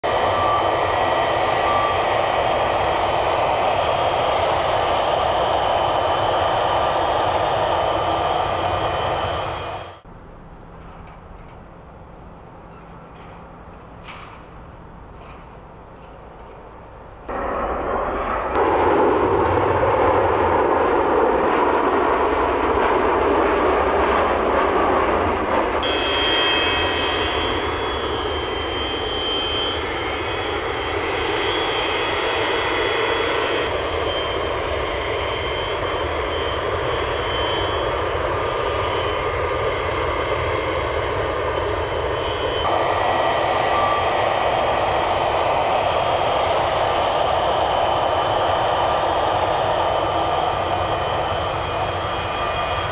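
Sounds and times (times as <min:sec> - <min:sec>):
high jet whine: 0:00.0 - 0:52.9
jet engines running loud: 0:00.0 - 0:52.9.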